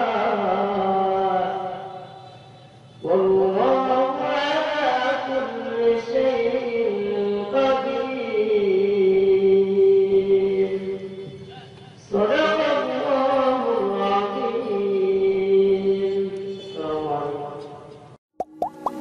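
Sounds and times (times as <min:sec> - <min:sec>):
melodic recitation chanting: 0:00.0 - 0:19.0.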